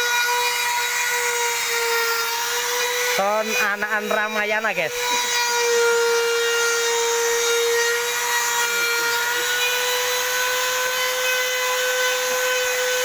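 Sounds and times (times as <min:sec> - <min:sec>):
electric power tool humming: 0:00.0 - 0:13.0.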